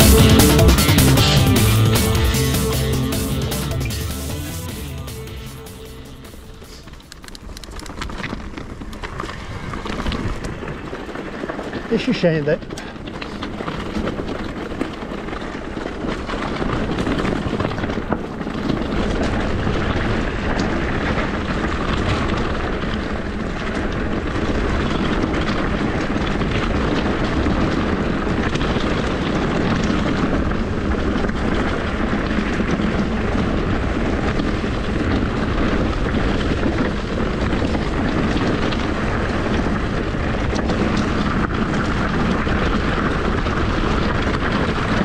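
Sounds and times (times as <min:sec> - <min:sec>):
bike rattles and clicks: 0:06.6 - 0:45.0
wind and tyre roar: 0:07.0 - 0:45.0.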